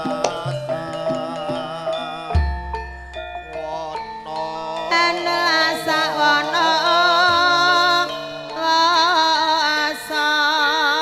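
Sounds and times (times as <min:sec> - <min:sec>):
woman singing: 0:00.0 - 0:02.4, 0:03.6 - 0:11.0
sustained metallophone tones: 0:00.0 - 0:11.0.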